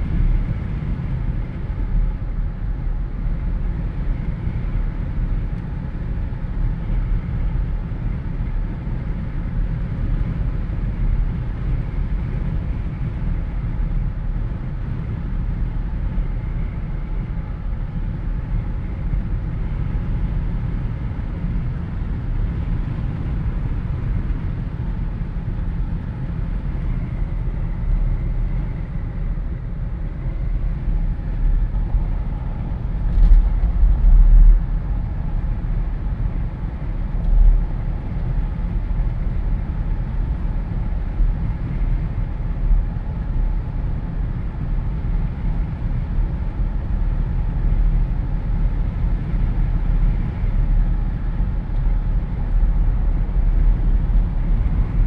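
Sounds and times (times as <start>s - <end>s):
road noise: 0.0s - 55.0s
wind rushing through car windows: 0.0s - 55.0s.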